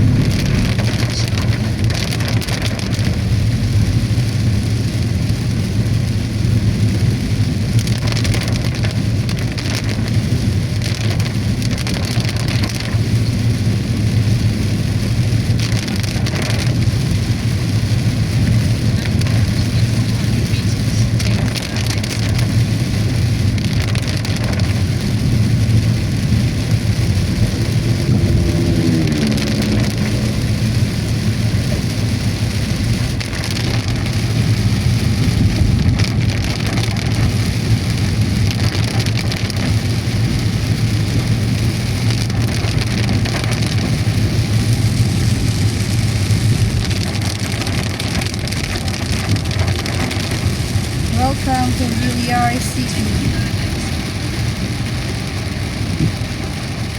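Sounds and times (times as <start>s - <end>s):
engine and tyre hum: 0.0s - 56.9s
heavy rain on car roof: 0.0s - 56.9s.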